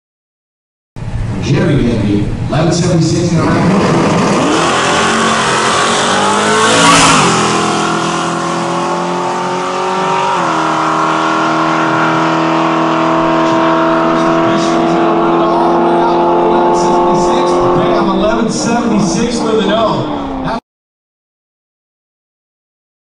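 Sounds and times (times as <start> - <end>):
truck engine at full throttle: 1.0 - 20.6.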